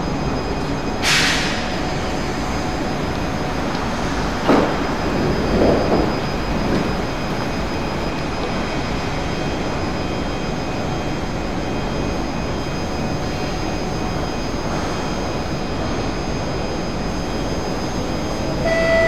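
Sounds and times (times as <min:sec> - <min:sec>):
faint high whining tones: 0:00.0 - 0:19.0
train hum and rush: 0:00.0 - 0:19.0.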